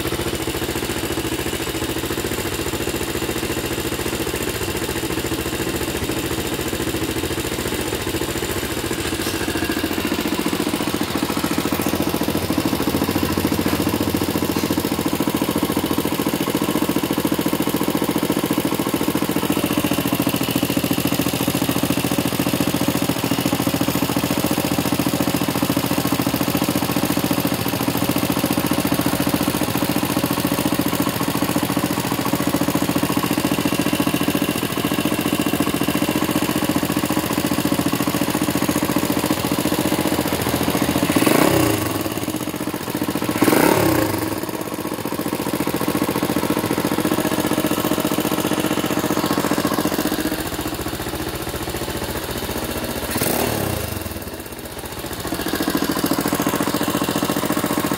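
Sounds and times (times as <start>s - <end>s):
motorcycle engine idling and revving: 0.0s - 57.9s.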